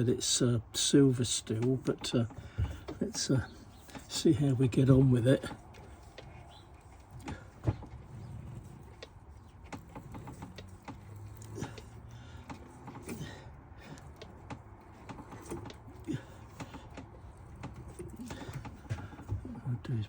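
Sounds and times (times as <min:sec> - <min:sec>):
tap clicking and creaking in metal: 0:00.0 - 0:20.0.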